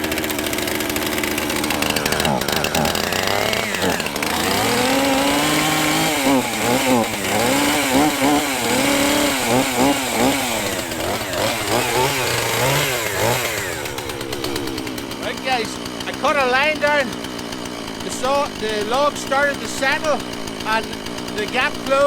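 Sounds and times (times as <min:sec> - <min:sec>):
chainsaw cutting through log: 0:00.0 - 0:22.0.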